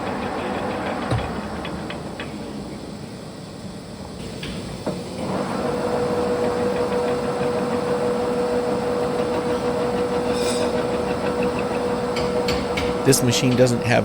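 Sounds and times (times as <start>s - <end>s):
lathe whining: 0.0s - 14.0s.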